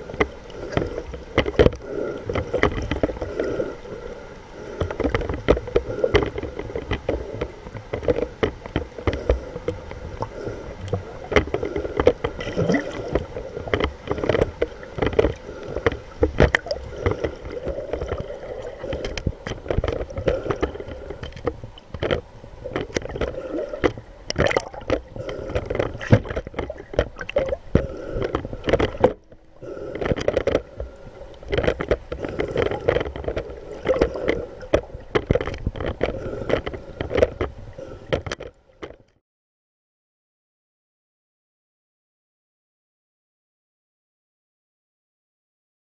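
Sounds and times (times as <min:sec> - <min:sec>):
sharp clicks and knocks: 0:00.0 - 0:03.4, 0:04.7 - 0:39.2.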